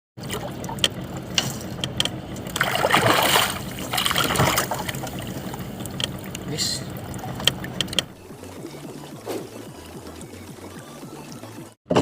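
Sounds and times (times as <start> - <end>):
water sloshing and splashing: 0.2 - 11.8.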